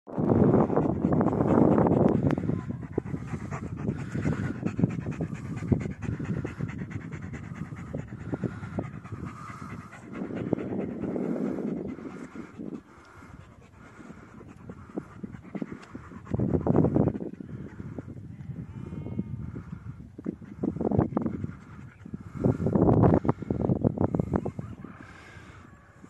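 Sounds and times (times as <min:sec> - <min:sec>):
dog panting: 0:00.2 - 0:18.1, 0:19.4 - 0:25.6.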